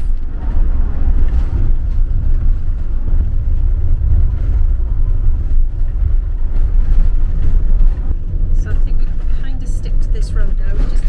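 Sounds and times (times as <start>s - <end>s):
vehicle road and engine rumble: 0.0s - 11.0s.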